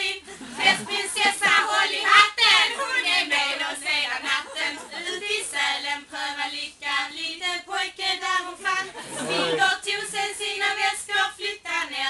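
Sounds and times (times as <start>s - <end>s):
group of women singing: 0.0s - 12.0s.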